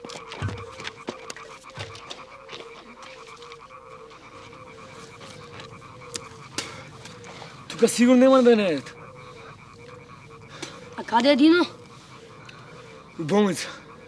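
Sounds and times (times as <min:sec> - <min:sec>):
frogs croaking: 0:00.0 - 0:14.0.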